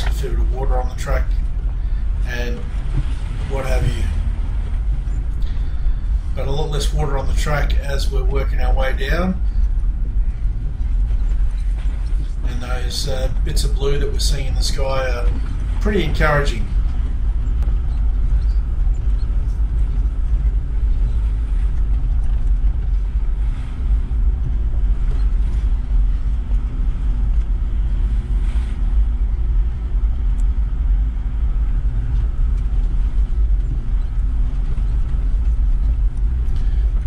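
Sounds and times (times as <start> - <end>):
engine and tyre rumble: 0.0 - 37.0.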